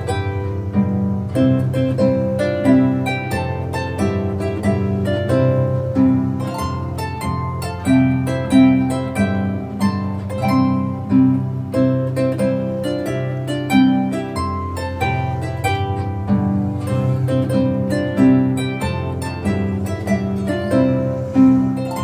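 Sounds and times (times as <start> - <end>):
harp music: 0.0 - 22.0.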